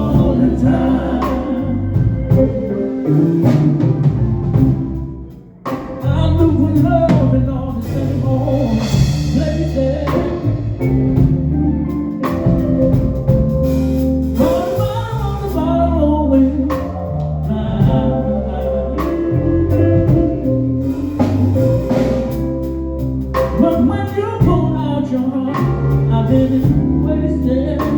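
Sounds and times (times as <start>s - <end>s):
bass: 0.0s - 27.9s
drum kit: 0.0s - 27.9s.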